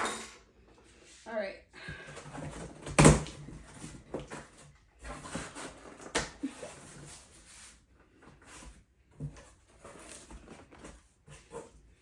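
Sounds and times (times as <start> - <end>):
cardboard scraping and rustling: 2.2 - 12.0.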